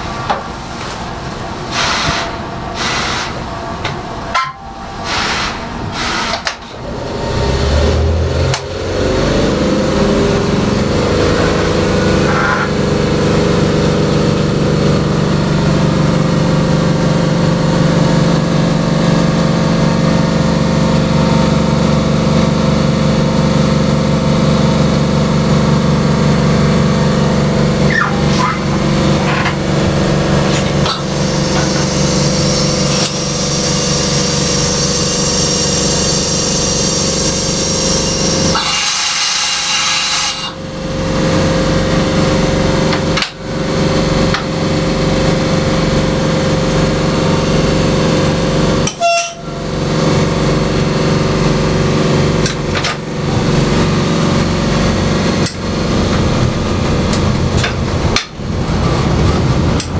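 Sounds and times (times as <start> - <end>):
railway engine starting and running: 0.0 - 59.9.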